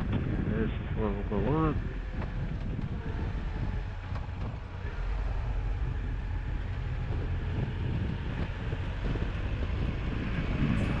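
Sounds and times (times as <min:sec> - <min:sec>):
wind rushing over microphone: 0:00.0 - 0:11.0
motorcycle engine running: 0:01.4 - 0:11.0.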